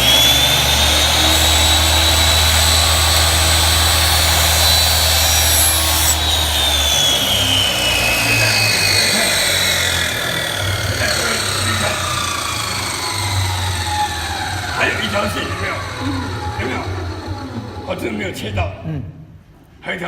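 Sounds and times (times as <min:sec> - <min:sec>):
miter saw whining through wood: 0:00.0 - 0:18.6.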